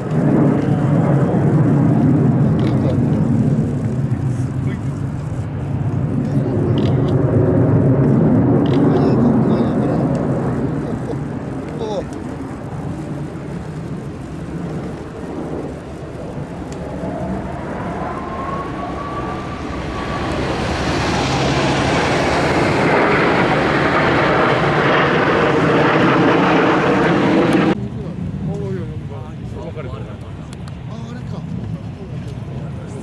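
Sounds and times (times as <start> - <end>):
faint rising whine: 0.0 - 28.8
jet engines roaring overhead: 0.0 - 33.0.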